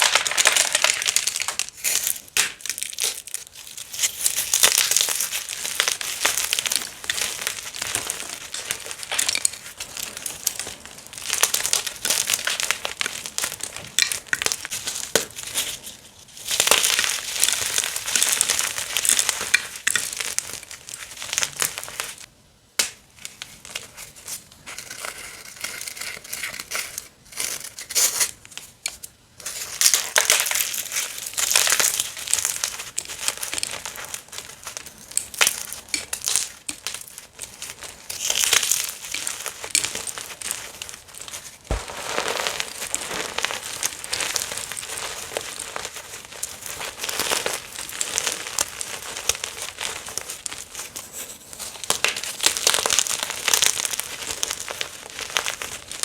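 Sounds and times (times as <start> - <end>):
chalk crunching: 0.0 - 22.3, 23.4 - 56.0.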